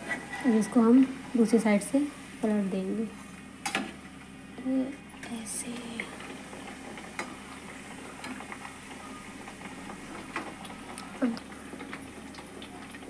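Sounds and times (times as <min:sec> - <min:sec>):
hot oil crackling and popping: 0:00.0 - 0:13.0.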